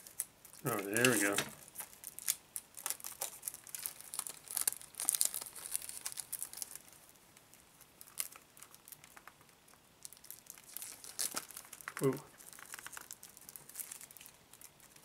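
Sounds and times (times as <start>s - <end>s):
plastic shrink-wrap crinkling: 0.0s - 15.0s.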